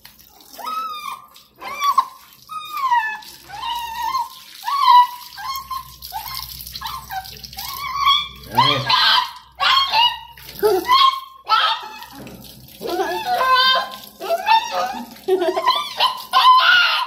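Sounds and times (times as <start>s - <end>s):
tap water running: 0.0s - 17.0s
puppy whining yelps: 0.4s - 17.0s.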